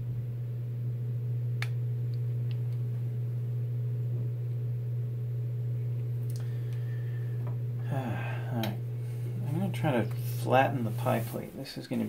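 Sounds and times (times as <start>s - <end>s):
hot plate electrical hum: 0.0s - 12.0s.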